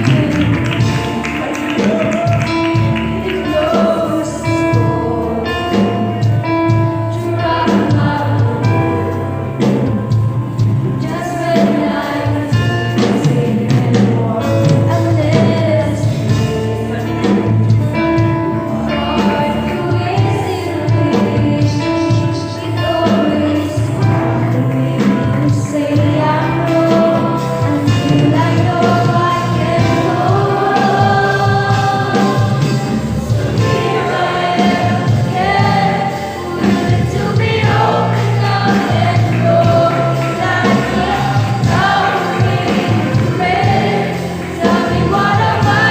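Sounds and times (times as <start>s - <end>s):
instrumental accompaniment with bass: 0.0s - 45.9s
youth choir singing gospel: 0.0s - 45.9s.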